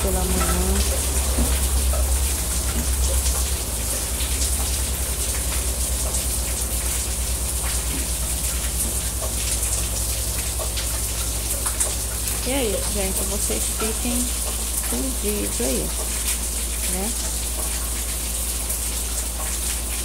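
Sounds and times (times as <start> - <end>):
low steady hum: 0.0 - 20.0
rain falling: 0.0 - 20.0.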